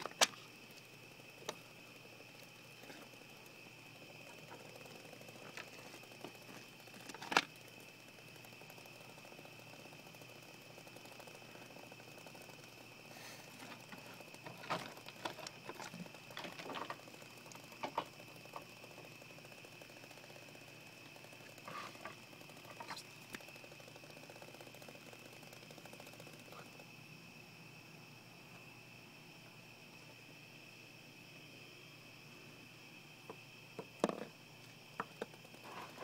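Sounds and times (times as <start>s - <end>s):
cricket trilling: 0.0s - 36.0s.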